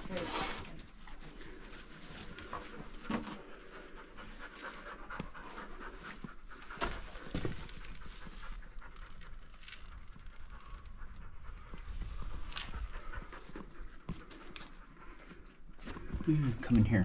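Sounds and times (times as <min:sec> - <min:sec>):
dog panting: 0:00.0 - 0:16.6.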